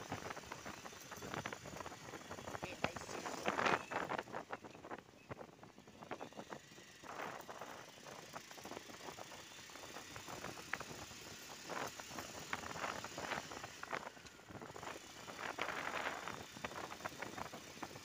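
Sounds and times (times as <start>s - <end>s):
motorcycle riding: 0.0s - 18.0s
road noise: 0.0s - 18.0s.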